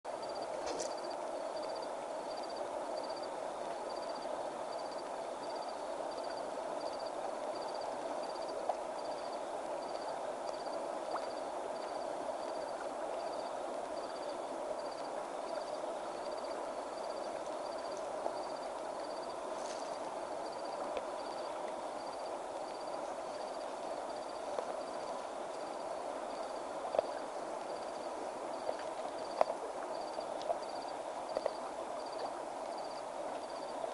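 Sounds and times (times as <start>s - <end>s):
night insect chorus: 0.1s - 33.9s.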